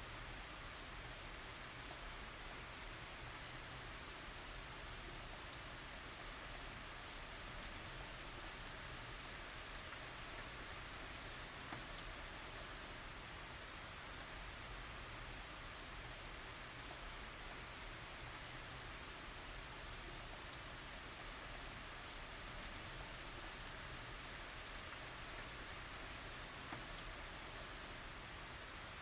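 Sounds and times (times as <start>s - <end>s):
steady rain hiss: 0.0s - 29.0s
raindrop ticks: 0.1s - 13.0s, 14.0s - 28.1s.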